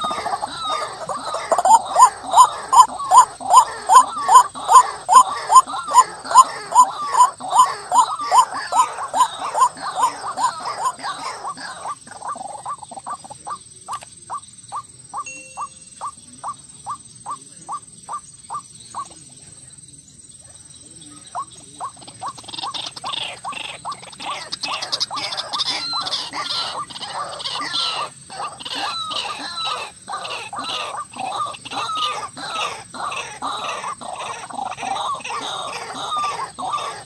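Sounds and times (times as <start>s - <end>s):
waterhen calling: 0.0s - 19.2s, 21.3s - 37.0s.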